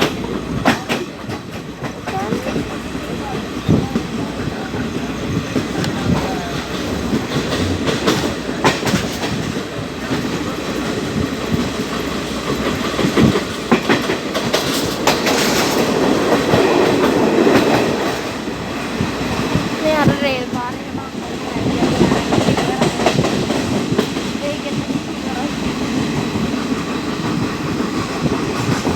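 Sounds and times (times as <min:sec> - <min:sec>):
train rumble: 0:00.0 - 0:28.9
train wheels clacking on rails: 0:00.0 - 0:28.9.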